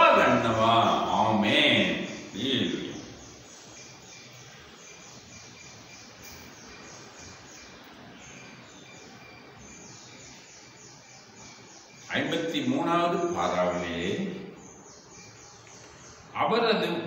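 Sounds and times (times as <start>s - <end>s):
faint background noise: 0.0s - 17.0s
high faint chirping: 0.0s - 17.0s.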